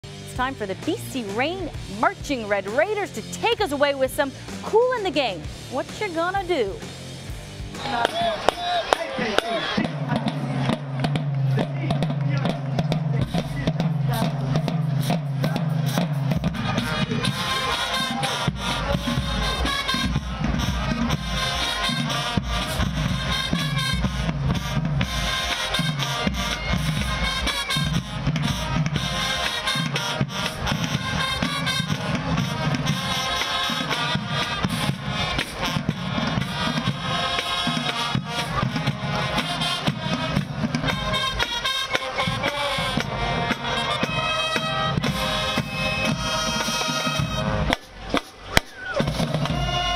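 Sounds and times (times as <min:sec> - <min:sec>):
drumline with bass drums: 0:00.0 - 0:49.9
marching band playing: 0:00.0 - 0:49.9.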